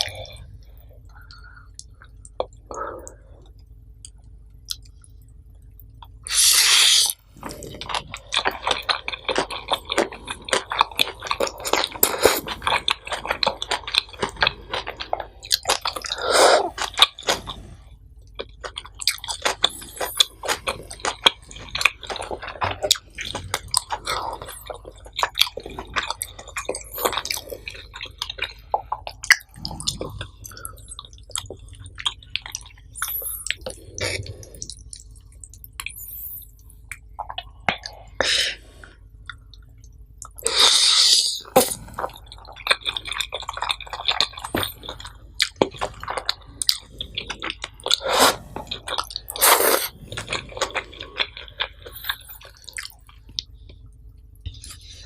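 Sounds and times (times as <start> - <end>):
close-miked chewing: 7.2 - 38.2, 38.8 - 55.0.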